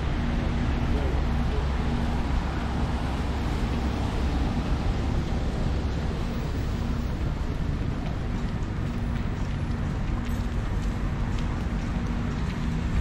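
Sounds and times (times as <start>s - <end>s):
low traffic rumble: 0.0s - 13.0s
rain hissing on wet roads: 0.0s - 13.0s.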